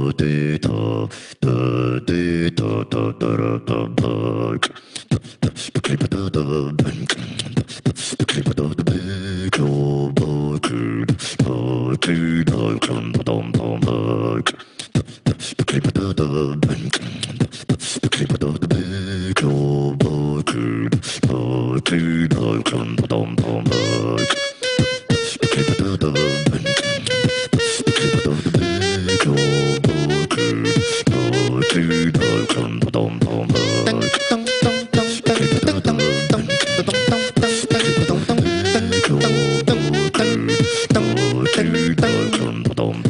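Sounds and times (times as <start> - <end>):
beatboxing: 0.0 - 43.0.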